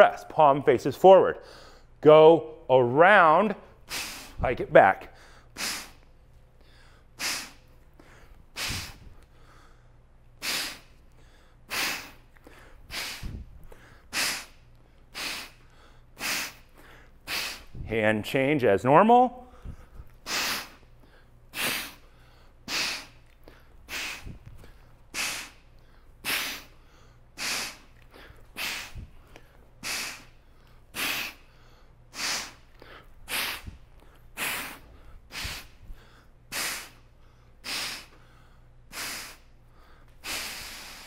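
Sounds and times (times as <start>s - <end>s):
man's sharp exertion breaths: 1.4s - 2.0s, 3.7s - 4.5s, 5.1s - 17.9s, 19.5s - 41.0s.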